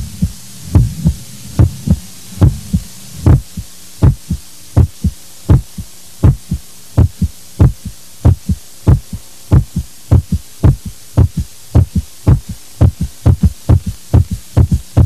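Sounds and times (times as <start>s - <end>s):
faint low hum: 0.0s - 15.0s
heartbeat: 0.0s - 15.0s.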